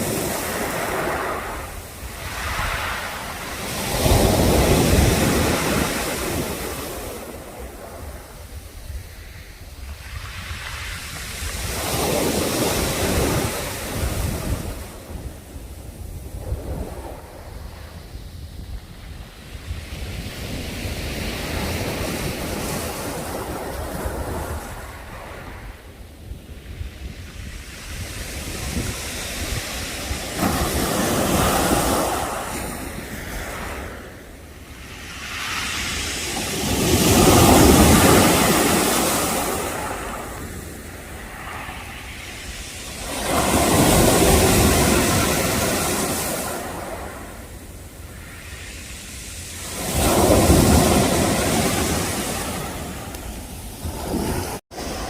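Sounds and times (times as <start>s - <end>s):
sea waves breaking on shore: 0.0s - 55.0s
wind on microphone: 0.0s - 55.0s.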